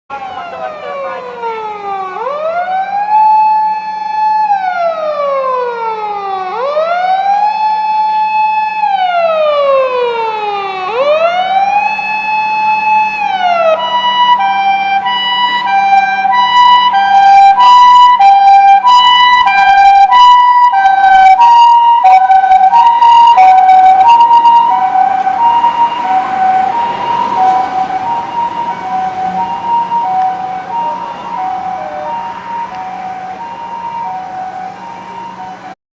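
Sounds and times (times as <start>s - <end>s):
ambulance siren wailing: 0.1s - 35.8s
two-tone hi-lo siren: 0.1s - 35.8s.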